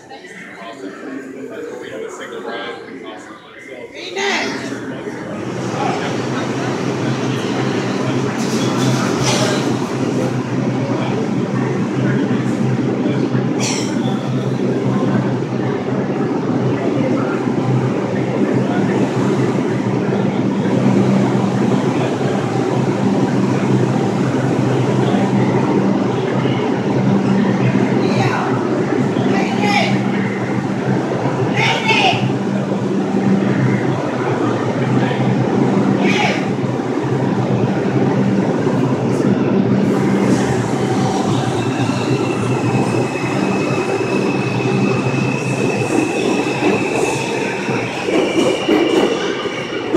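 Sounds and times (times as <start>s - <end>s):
subway train humming: 0.0s - 49.9s.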